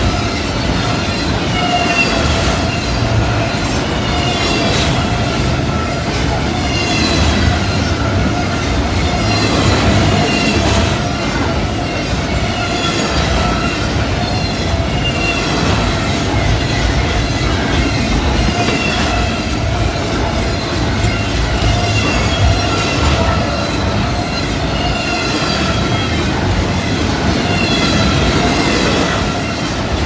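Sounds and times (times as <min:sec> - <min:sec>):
freight train wheels rumbling on rail: 0:00.0 - 0:30.0
high wheel squeal: 0:00.1 - 0:26.3.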